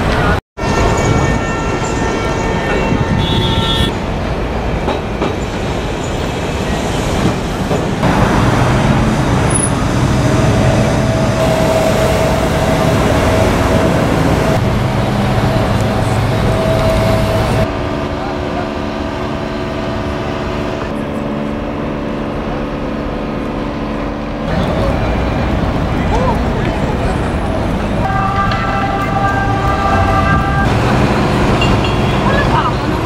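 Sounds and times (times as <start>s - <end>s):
traffic and rail rumble: 0.0s - 33.0s.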